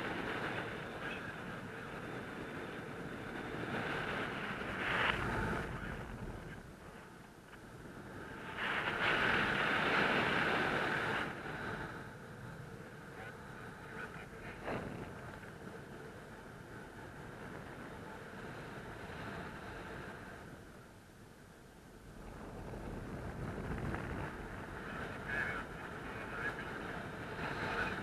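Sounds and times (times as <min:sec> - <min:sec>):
wind rushing over microphone: 0:00.0 - 0:20.9, 0:21.9 - 0:28.0.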